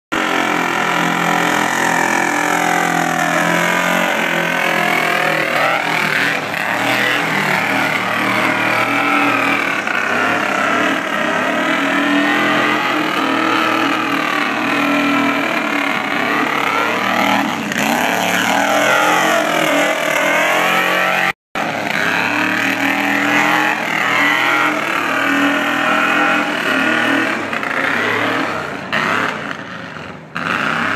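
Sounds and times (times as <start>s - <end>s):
engine revving hard: 0.1s - 30.9s.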